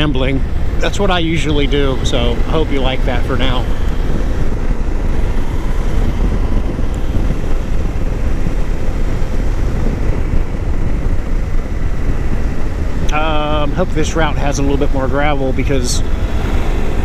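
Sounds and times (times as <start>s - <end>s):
motorcycle engine running: 0.0s - 17.0s
wind rush and road noise: 0.0s - 17.0s.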